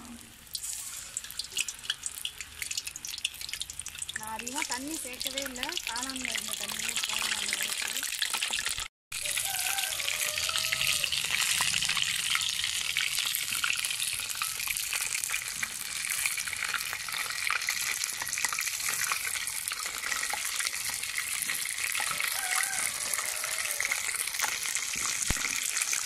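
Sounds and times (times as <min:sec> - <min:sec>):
mushrooms sizzling in hot oil: 0:00.2 - 0:26.0.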